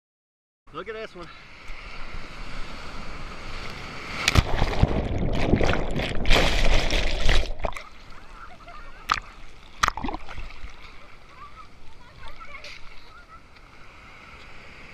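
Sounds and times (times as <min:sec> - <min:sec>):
ocean wave breaking: 0:01.4 - 0:14.9.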